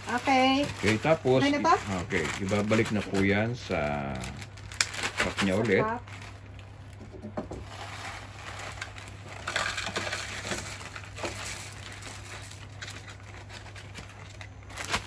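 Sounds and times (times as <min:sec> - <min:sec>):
dry noodle fragments rattling: 0:00.0 - 0:15.0
plastic bag crinkling: 0:00.0 - 0:15.0.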